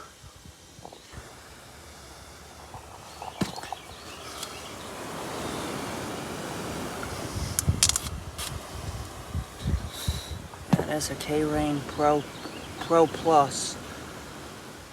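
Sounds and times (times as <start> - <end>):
sprinkler spray hiss: 0.0 - 14.9.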